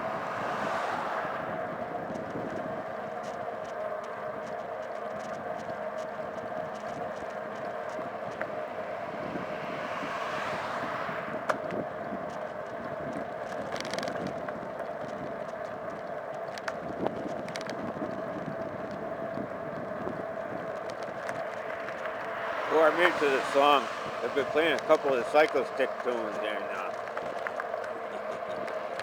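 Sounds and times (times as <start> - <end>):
passing vehicle: 0.0 - 29.0
road and wind noise hum: 0.0 - 29.0.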